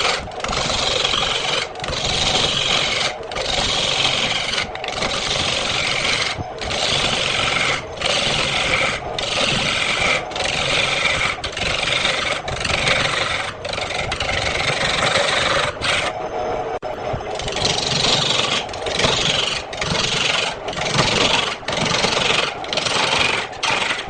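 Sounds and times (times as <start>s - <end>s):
turning tool cutting spinning wood: 0.0s - 24.0s
wood lathe hum: 0.0s - 24.0s.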